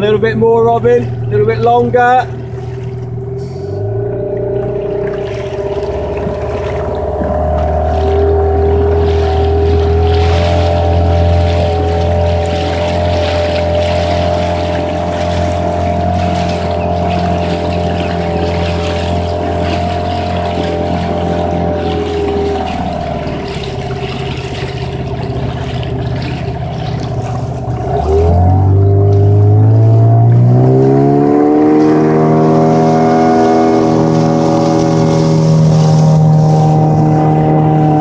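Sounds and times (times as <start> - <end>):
boat motor running: 0.0 - 38.0.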